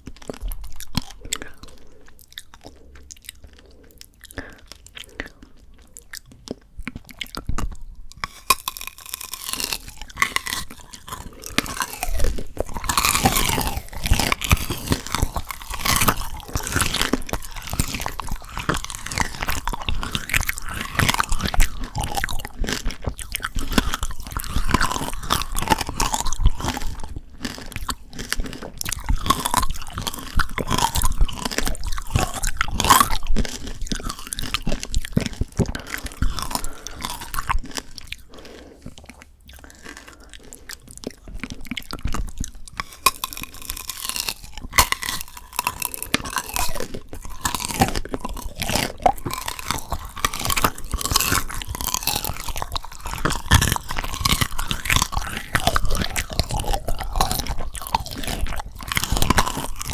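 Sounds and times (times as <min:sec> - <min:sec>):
crunching candied fruit: 0:00.0 - 0:59.9.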